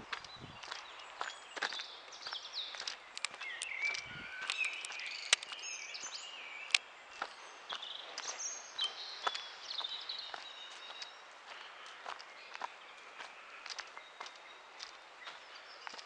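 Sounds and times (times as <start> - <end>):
birds singing and calling: 0.0 - 16.0
footsteps on dirt path: 0.0 - 16.0.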